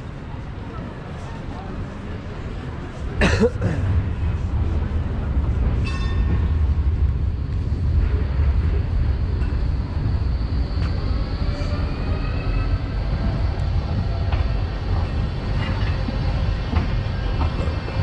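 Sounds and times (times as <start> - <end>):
tram rumbling past: 0.0 - 18.0.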